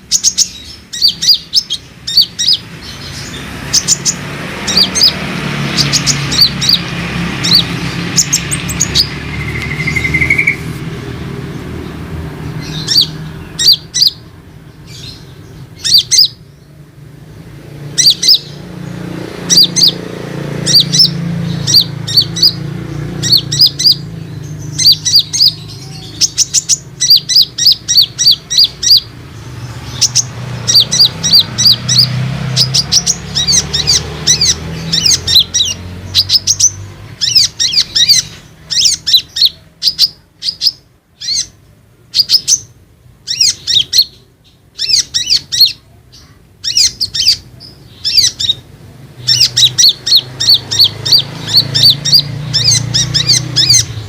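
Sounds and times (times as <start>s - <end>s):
sunbird singing high chirps: 0.0s - 54.0s.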